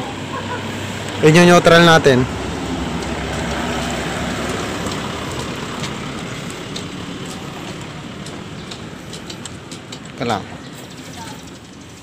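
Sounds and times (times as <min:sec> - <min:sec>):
motor vehicle noise: 0:00.0 - 0:12.0.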